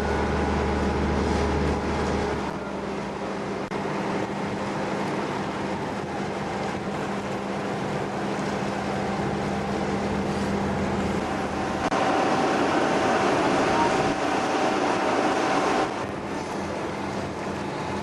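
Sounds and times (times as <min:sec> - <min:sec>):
broad rushing noise: 0:00.0 - 0:18.0
engine drone: 0:00.0 - 0:18.0.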